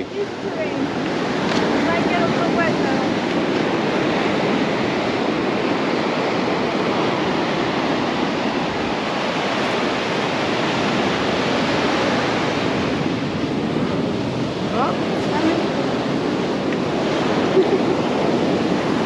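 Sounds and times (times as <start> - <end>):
ocean surf breaking on beach: 0.0 - 19.0.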